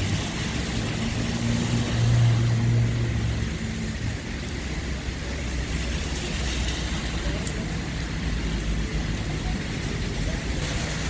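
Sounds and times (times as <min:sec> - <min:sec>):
hiss of wet street: 0:00.0 - 0:11.0
vehicle engine hum: 0:00.0 - 0:11.0.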